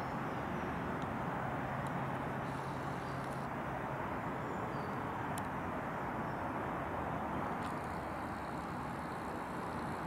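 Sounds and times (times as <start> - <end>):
outdoor background rumble and hiss: 0.0 - 10.0.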